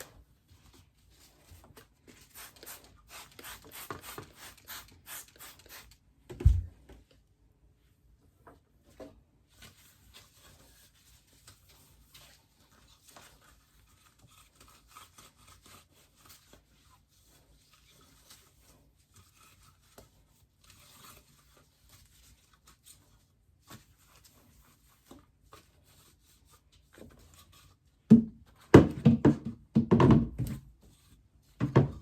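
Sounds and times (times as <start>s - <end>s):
rustling and rubbing: 0.0s - 5.9s, 7.8s - 28.6s.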